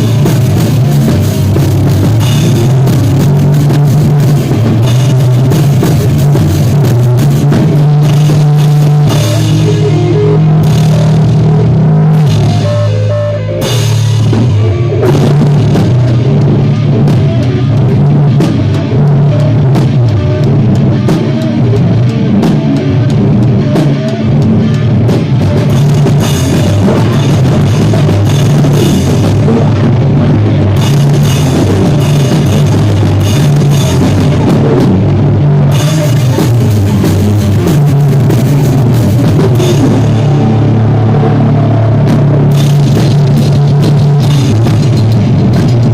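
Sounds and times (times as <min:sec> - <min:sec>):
drum kit with cymbals: 0:00.0 - 0:45.9
heavy bass: 0:00.0 - 0:45.9
rock band playing: 0:00.0 - 0:45.9.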